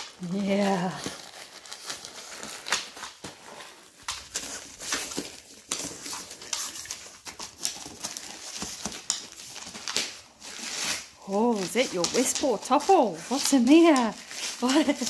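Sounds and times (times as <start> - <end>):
wrapping paper ripping: 0.0 - 15.0.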